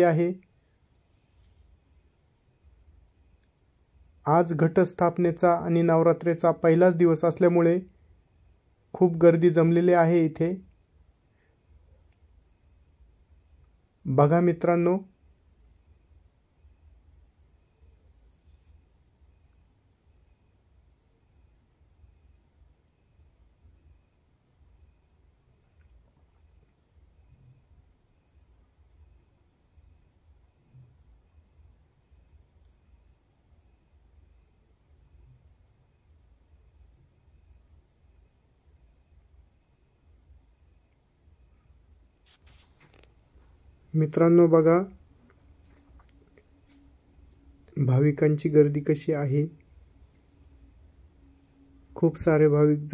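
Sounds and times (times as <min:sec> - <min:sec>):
crickets chirring: 0:00.0 - 0:52.9.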